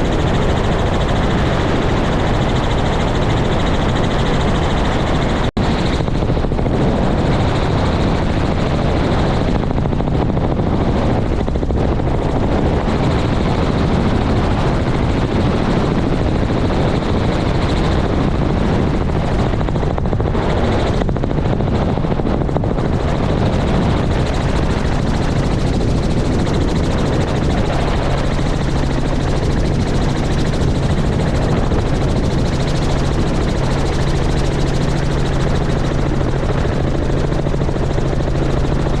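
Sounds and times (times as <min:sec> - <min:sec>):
helicopter rotor and engine: 0:00.0 - 0:39.0
low hum: 0:00.0 - 0:39.0.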